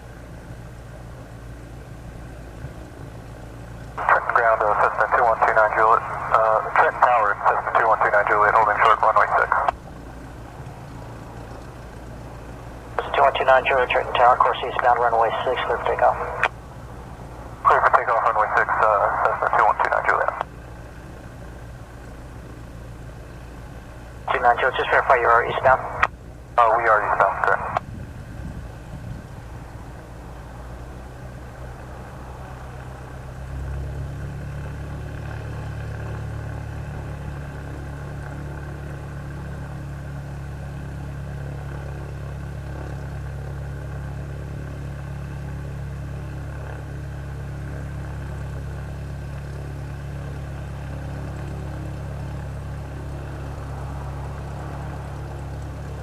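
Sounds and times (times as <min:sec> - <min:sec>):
small plane engine running: 0:00.0 - 0:56.0.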